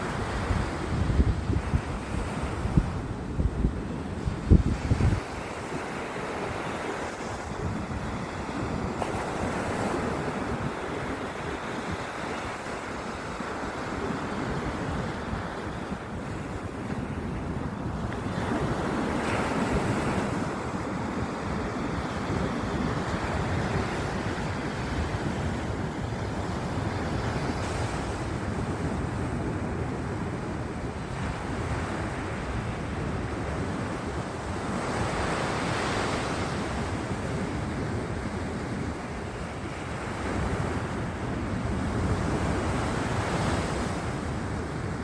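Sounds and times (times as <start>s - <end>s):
sea surf washing onto shore: 0.0s - 45.0s
waves breaking: 0.0s - 45.0s
wind buffeting microphone: 0.0s - 45.0s.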